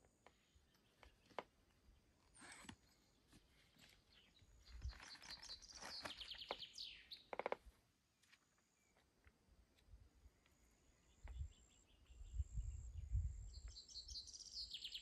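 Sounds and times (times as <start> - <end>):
songbird singing: 0.0 - 7.6, 10.1 - 15.0.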